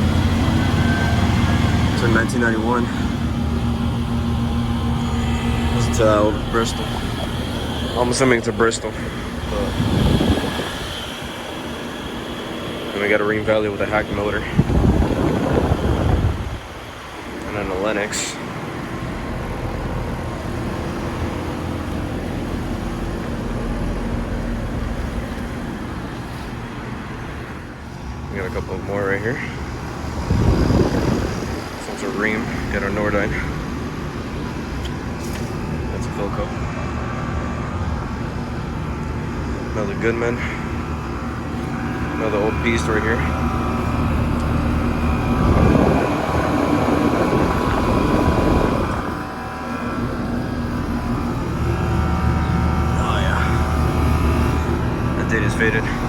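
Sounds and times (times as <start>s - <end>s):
air conditioner unit humming: 0.0s - 56.0s.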